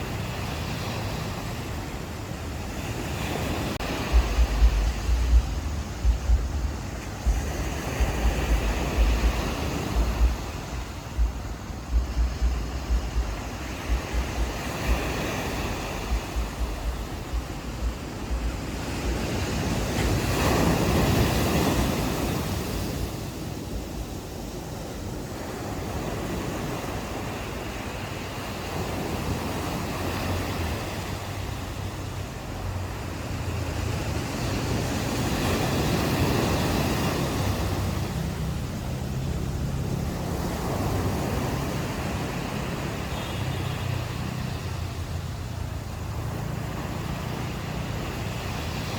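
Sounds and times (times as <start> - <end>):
ocean waves washing onto beach: 0.0 - 48.9
wind buffeting microphone: 0.0 - 48.9.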